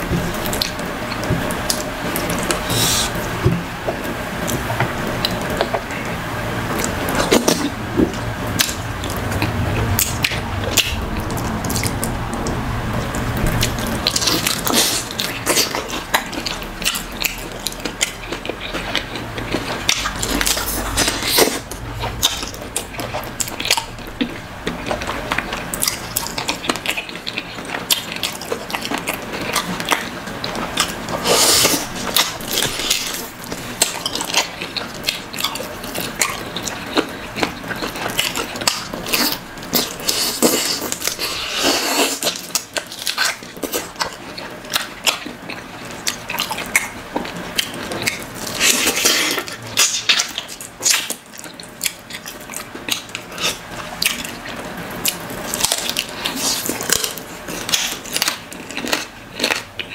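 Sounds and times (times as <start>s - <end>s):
man chewing: 0.0s - 59.9s.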